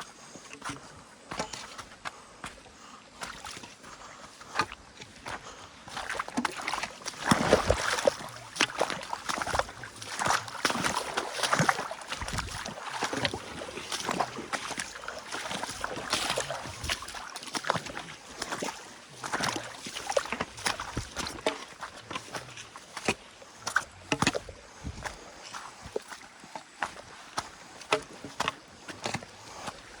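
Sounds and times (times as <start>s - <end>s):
stream water splashing: 0.0s - 30.0s.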